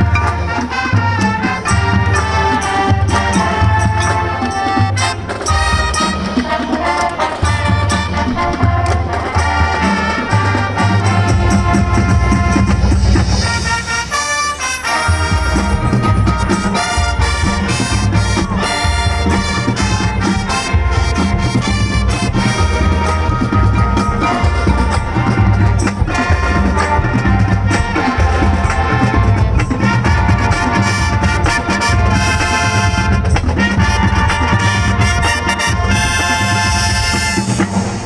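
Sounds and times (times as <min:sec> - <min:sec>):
marching band playing: 0:00.0 - 0:38.0.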